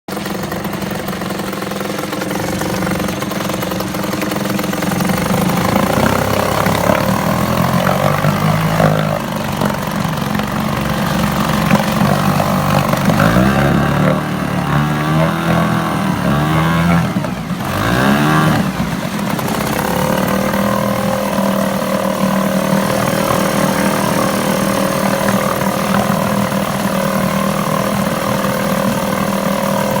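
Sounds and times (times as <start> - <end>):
outboard motor revving: 0.1 - 30.0.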